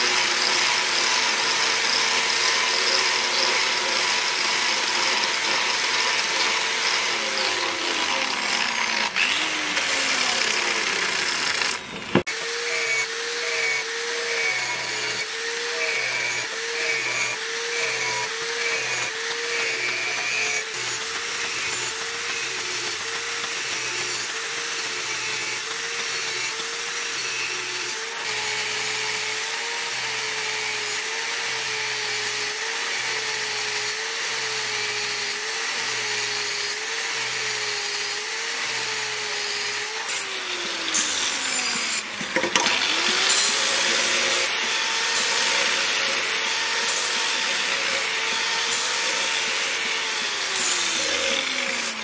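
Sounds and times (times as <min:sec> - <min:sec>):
angle grinder on wood: 0:00.0 - 0:52.0.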